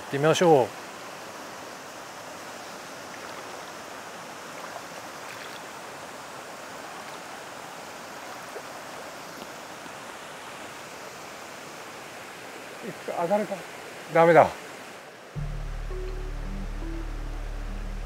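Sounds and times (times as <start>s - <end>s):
stream flowing over rocks: 0.1s - 16.3s.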